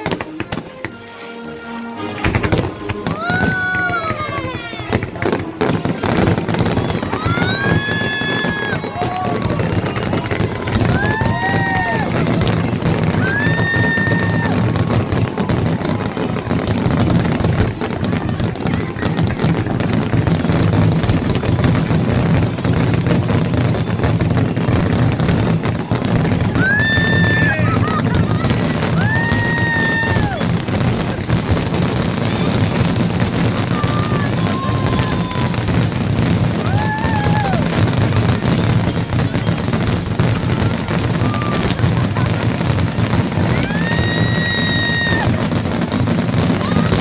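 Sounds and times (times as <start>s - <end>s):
fireworks crackling and popping: 0.0s - 1.0s, 2.0s - 47.0s.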